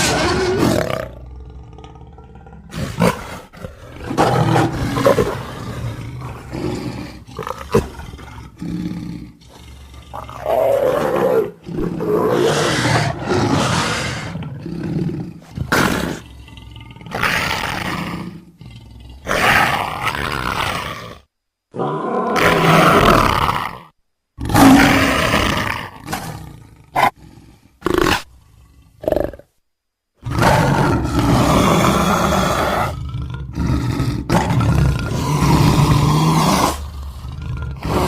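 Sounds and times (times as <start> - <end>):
big cat roaring: 0.0 - 29.5, 30.2 - 38.0.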